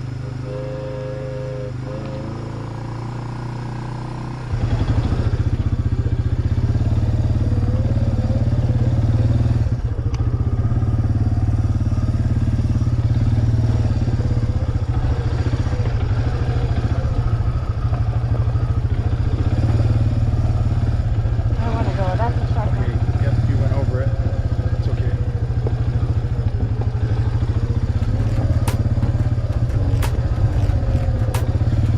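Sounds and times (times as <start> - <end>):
quad bike engine running: 0.0 - 31.9.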